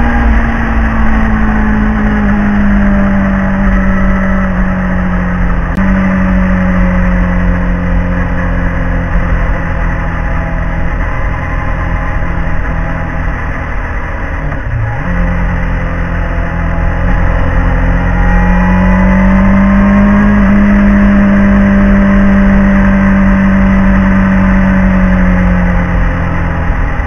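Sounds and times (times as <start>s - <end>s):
motorcycle engine running: 0.0s - 27.0s
wind and road rush: 0.0s - 27.0s.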